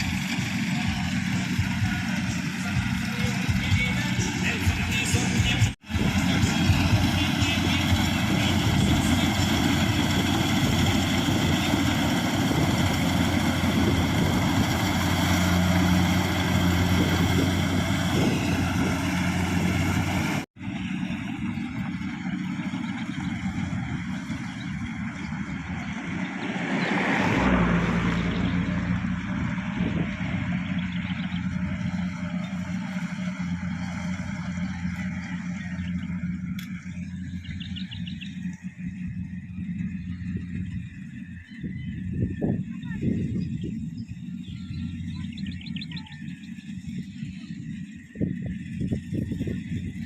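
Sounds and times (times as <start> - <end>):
diesel engine running under load: 0.0 - 50.0.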